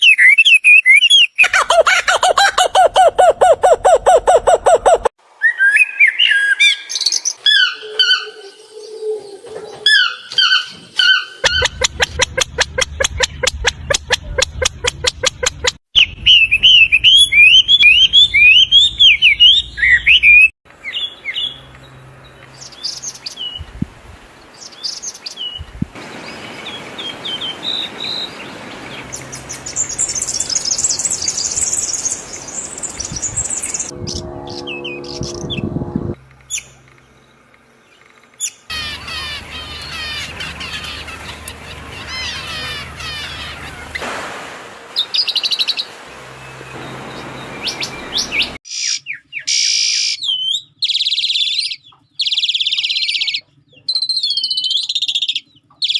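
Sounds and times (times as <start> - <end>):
birds singing and chirping: 0.0 - 23.7, 24.5 - 35.7, 36.4 - 44.0, 45.0 - 55.9.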